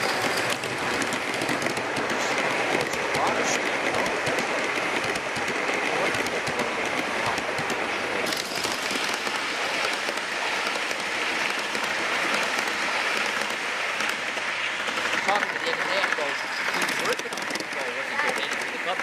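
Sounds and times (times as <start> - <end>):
fine clicks of train wheels: 0.0 - 19.0
model train wheels rolling: 0.0 - 19.0.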